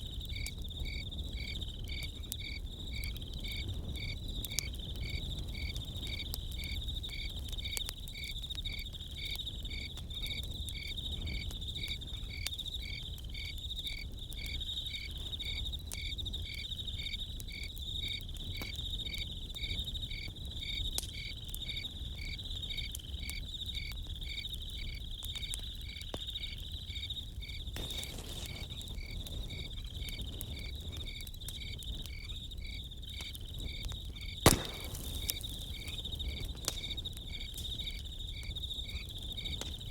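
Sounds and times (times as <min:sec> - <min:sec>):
campfire crackling: 0:00.0 - 0:39.9
crickets chirping: 0:00.0 - 0:39.9
fire snapping: 0:00.0 - 0:39.9
high insect trill: 0:00.0 - 0:39.9.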